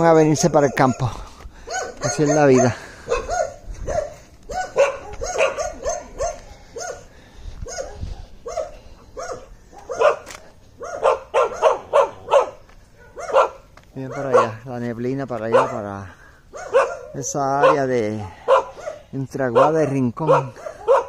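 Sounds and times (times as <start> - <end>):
dog barking: 0.4 - 14.7, 15.4 - 21.0.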